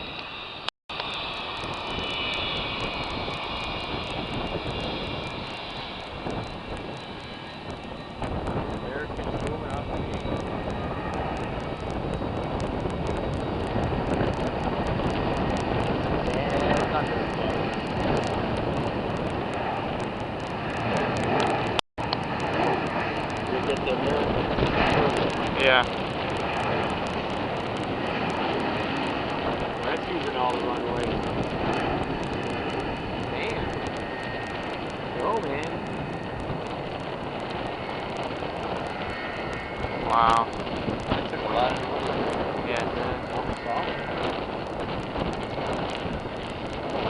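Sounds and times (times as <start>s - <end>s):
jet airliner engines running: 0.0s - 47.0s
wind on microphone: 0.0s - 47.0s.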